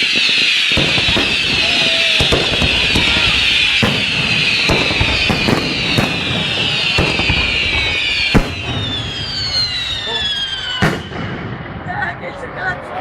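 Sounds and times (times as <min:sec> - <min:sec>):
firework whistles sliding down: 0:00.0 - 0:11.4
firework bangs: 0:00.0 - 0:12.6.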